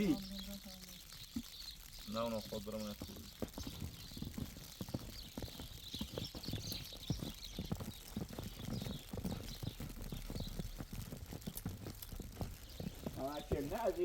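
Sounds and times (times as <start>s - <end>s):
walking footsteps: 1.0s - 14.0s.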